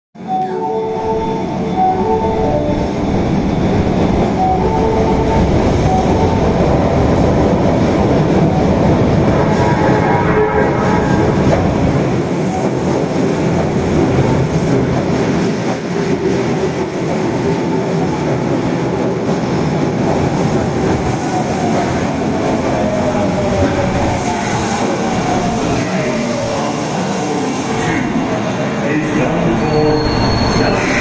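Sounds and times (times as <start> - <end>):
train wheels rumbling on rails: 1.8 - 31.0.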